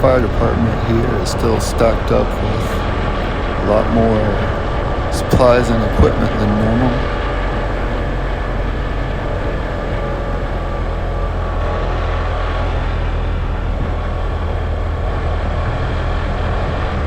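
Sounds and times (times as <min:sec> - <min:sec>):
car engine hum: 0:00.0 - 0:17.0
road and tyre noise: 0:00.0 - 0:17.0.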